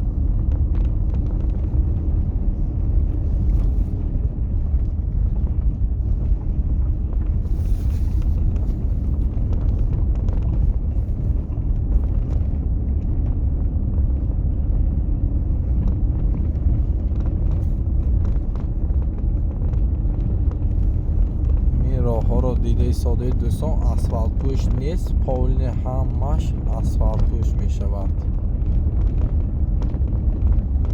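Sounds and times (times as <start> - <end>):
car driving rumble: 0.0 - 30.9.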